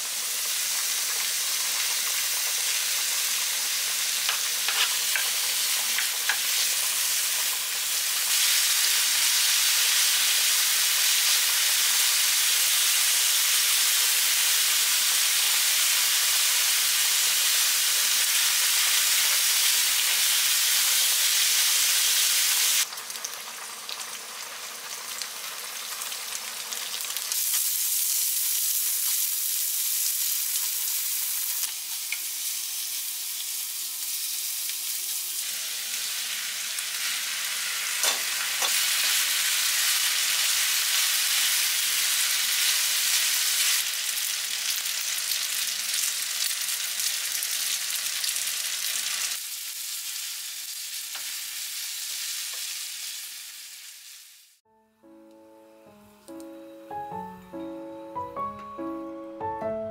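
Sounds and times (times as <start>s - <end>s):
meat sizzling in a frying pan: 0.0s - 54.6s.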